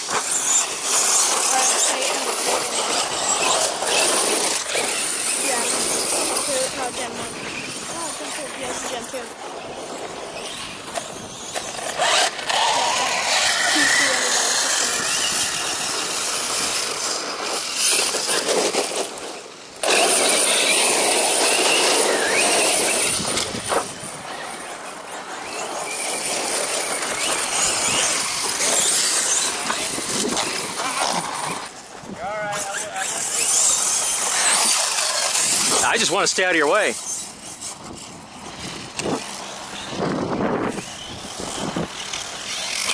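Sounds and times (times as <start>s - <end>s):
electric motor whining: 0.0s - 42.9s
gritty tyre and drivetrain noise: 0.0s - 42.9s.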